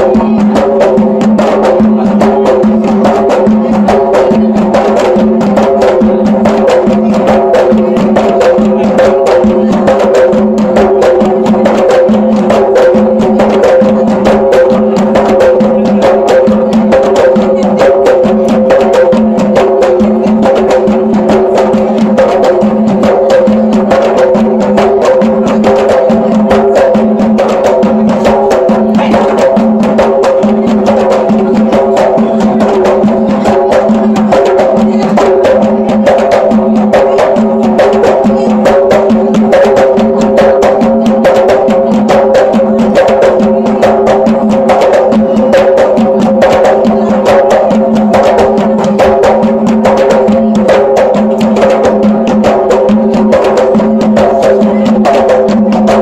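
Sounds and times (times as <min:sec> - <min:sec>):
frame drums struck by hand: 0:00.0 - 0:56.0
ringing drum tone: 0:00.0 - 0:56.0.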